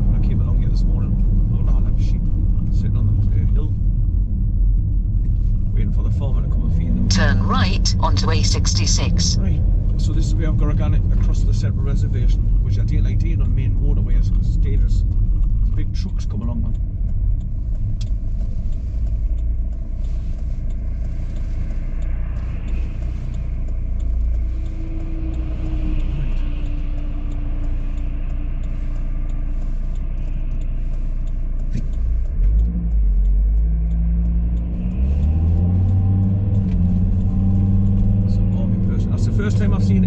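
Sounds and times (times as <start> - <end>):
car engine rumble: 0.0 - 40.0
road noise inside car: 0.0 - 40.0.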